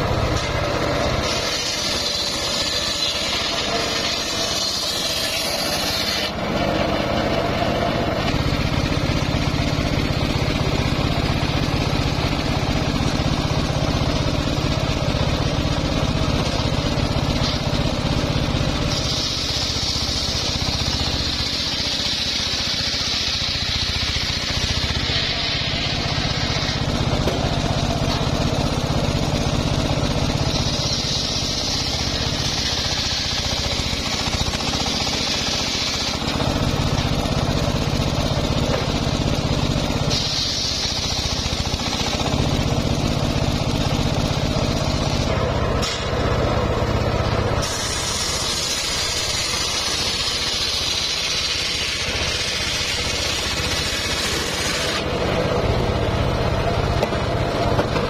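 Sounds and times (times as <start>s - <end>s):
saw blade hissing through wood: 0.0s - 46.6s, 47.2s - 55.5s
engine drone: 0.0s - 58.0s.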